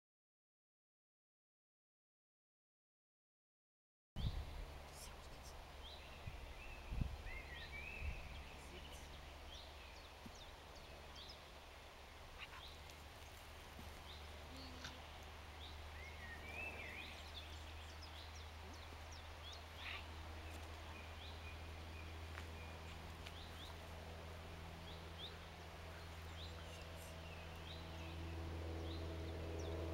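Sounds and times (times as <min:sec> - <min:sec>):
low steady rumble: 0:04.2 - 0:29.9
small birds chirping: 0:04.2 - 0:29.9.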